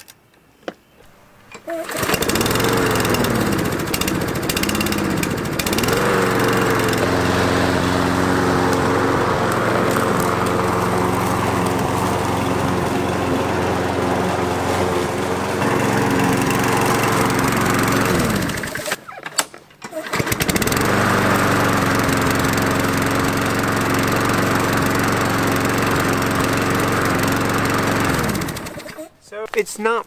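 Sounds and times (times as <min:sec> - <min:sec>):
lawn mower engine running: 0:01.3 - 0:29.2.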